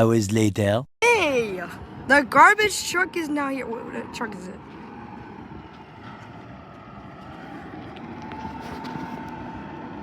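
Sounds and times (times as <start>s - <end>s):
diesel truck engine running: 1.3s - 10.0s.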